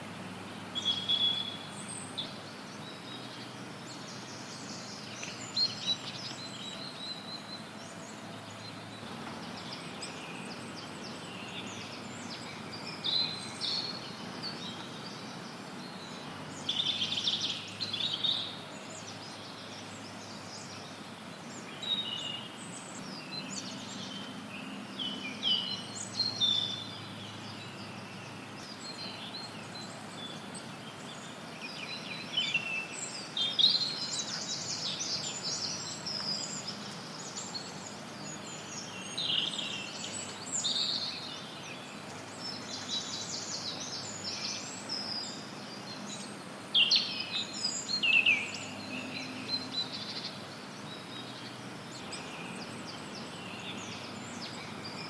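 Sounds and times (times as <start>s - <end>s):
songbirds chirping: 0.0s - 55.0s
white noise hiss: 0.0s - 55.0s.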